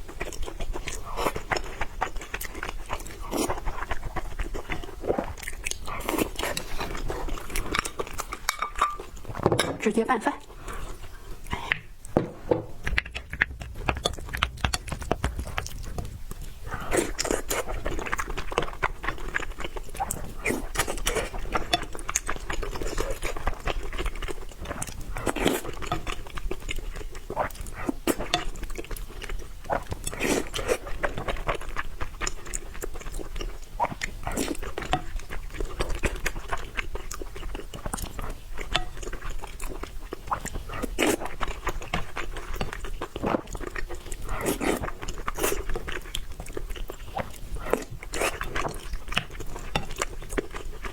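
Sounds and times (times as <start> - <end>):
chewing: 0.0 - 9.4, 10.4 - 12.2, 12.8 - 50.9.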